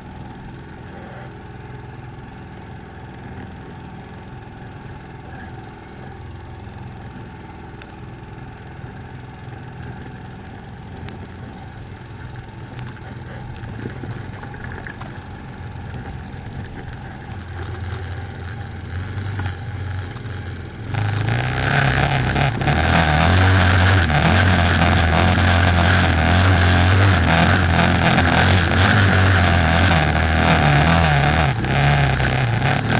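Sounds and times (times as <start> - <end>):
quad engine running and accelerating: 0.0 - 32.9.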